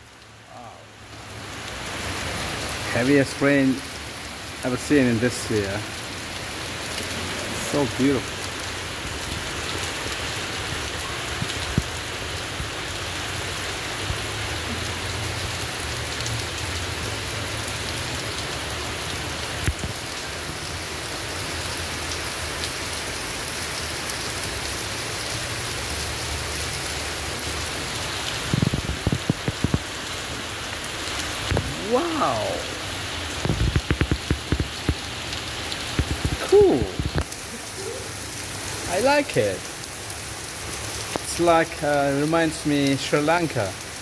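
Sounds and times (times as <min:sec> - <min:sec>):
heavy rain on paving: 0:00.0 - 0:44.0.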